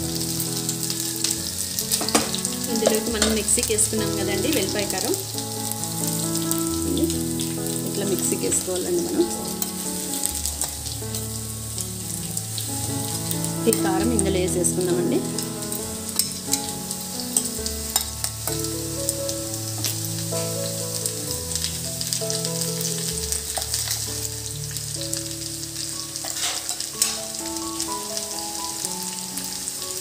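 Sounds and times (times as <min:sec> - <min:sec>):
chicken sizzling in a pan: 0:00.0 - 0:30.0
soft background music: 0:00.0 - 0:30.0.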